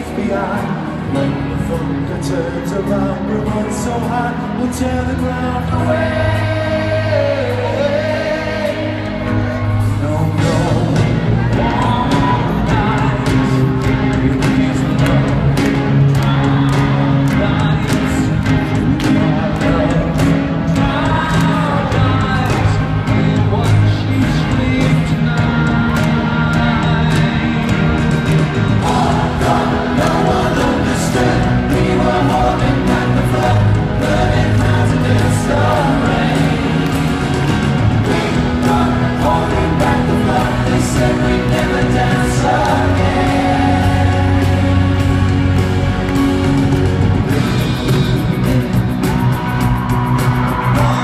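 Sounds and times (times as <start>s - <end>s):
men singing together: 0.0s - 46.2s
live pop band: 0.0s - 51.0s.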